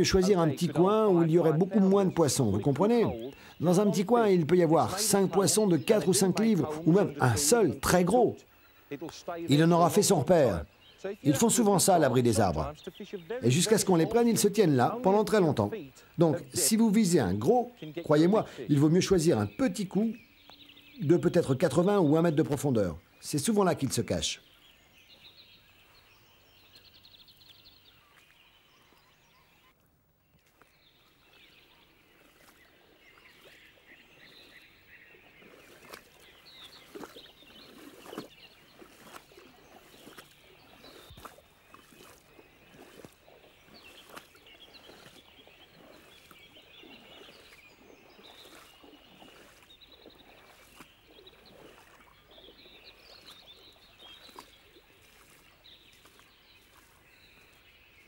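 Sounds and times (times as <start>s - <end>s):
running water: 0.0s - 24.6s, 30.3s - 58.0s
faint birdsong: 0.0s - 58.0s
footsteps splashing through water: 0.0s - 58.0s.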